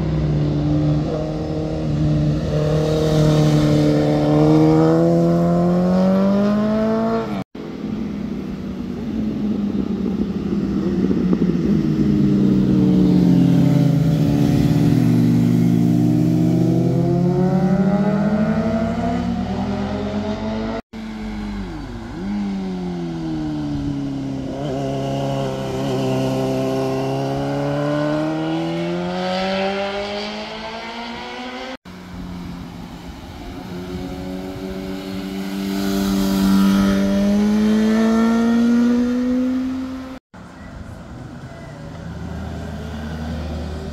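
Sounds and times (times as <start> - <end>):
motorcycle engines passing: 0.0 - 43.9.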